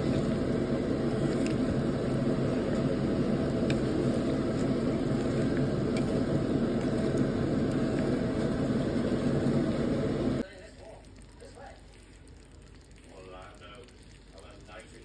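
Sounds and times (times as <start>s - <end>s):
mechanical hum with whirring: 0.0s - 15.0s.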